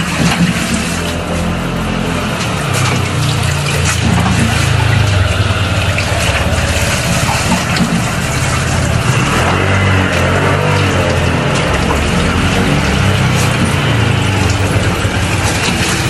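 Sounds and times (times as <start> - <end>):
water splashing into sink: 0.0 - 16.0
water spraying from shower head: 0.0 - 16.0.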